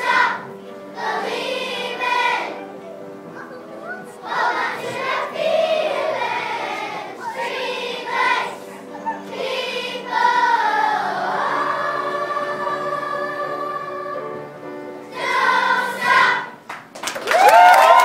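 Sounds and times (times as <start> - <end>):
children's choir singing: 0.0 - 16.7.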